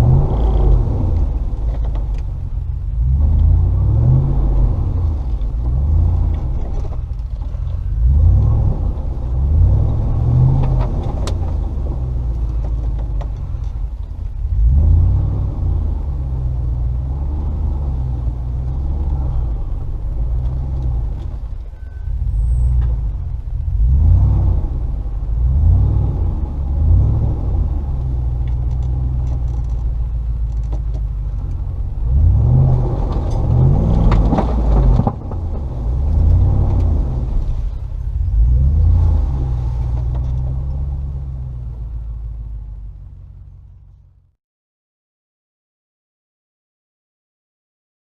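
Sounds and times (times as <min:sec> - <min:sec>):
car engine driving slowly: 0:00.0 - 0:44.4.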